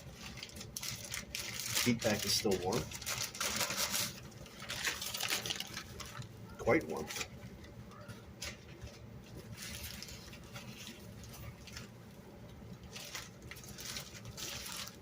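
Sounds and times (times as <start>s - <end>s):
low background hum: 0.0s - 15.0s
packing material crinkling: 0.0s - 15.0s.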